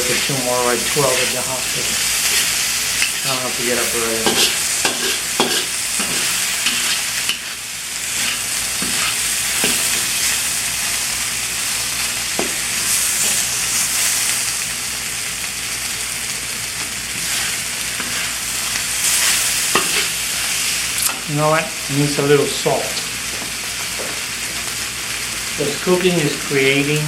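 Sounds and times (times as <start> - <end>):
food sizzling in a pan: 0.0 - 27.0.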